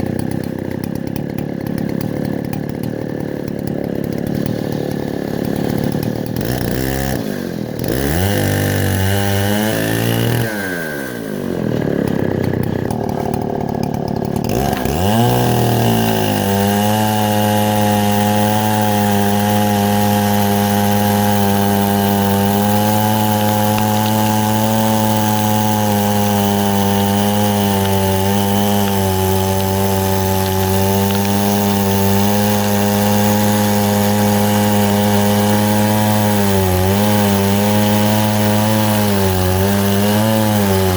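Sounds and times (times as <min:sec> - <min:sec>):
chainsaw revving and cutting wood: 0:00.0 - 0:40.9.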